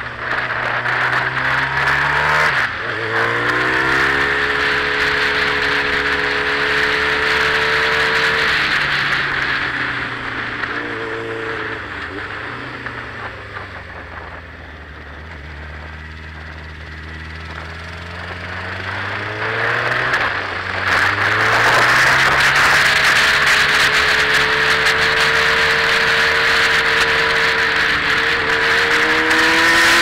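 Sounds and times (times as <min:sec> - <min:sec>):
motorcycle engine: 0:00.0 - 0:30.0.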